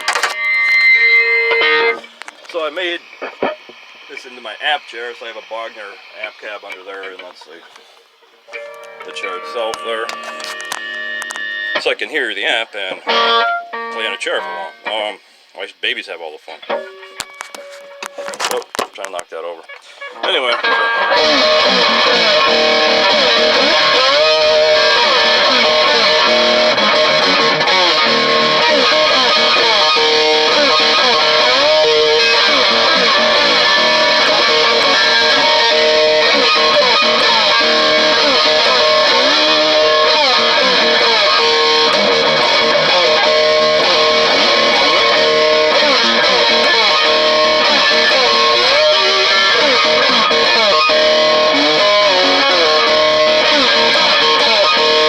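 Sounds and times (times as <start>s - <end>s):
slide electric guitar: 0.0s - 15.2s, 16.5s - 55.0s.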